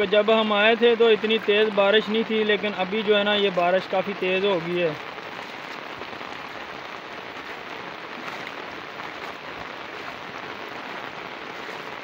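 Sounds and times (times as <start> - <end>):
heavy rain on water and leaves: 0.0 - 12.0.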